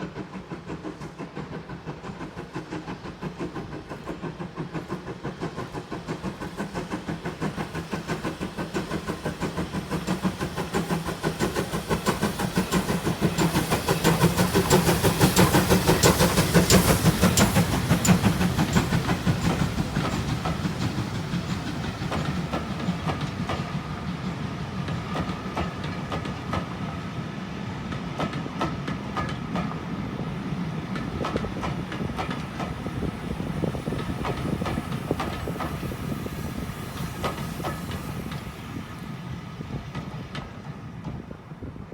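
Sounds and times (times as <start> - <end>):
steam locomotive chuffing: 0.0 - 41.9
train wheels clattering on rails: 0.0 - 41.9.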